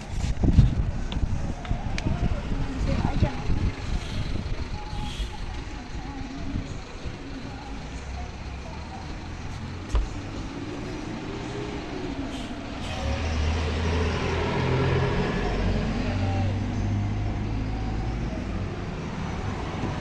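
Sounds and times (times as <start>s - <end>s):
passing vehicle engine rumble: 0.0s - 20.0s.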